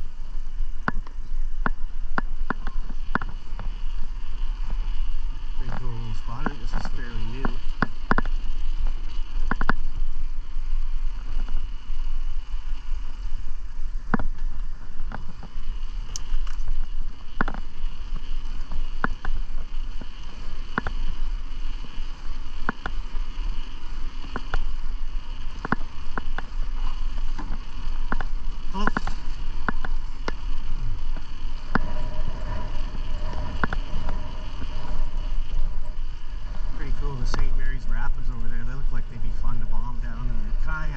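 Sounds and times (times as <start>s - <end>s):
bicycle tyres rolling: 0.0s - 40.9s
wind on microphone: 0.0s - 40.9s
sharp ticks: 0.8s - 12.9s, 14.0s - 40.9s.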